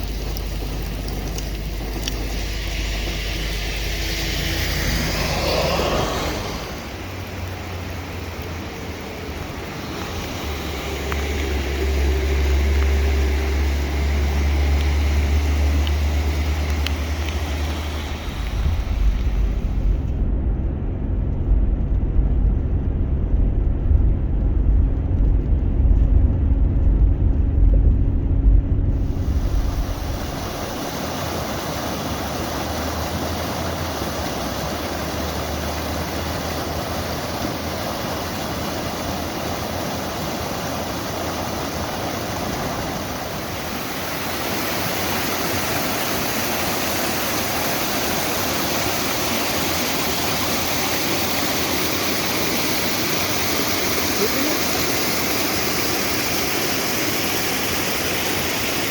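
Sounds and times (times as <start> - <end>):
water rushing: 0.0 - 20.2, 28.9 - 58.9
heavy low rumble: 0.0 - 55.2.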